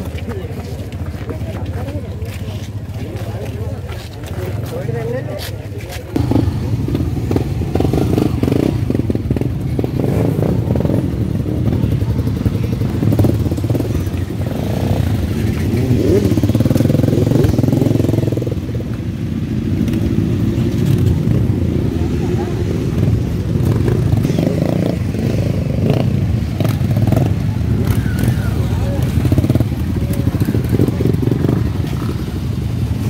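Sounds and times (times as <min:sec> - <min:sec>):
motorcycle engines idling: 0:00.0 - 0:33.0
motorcycle engine revving: 0:06.1 - 0:33.0.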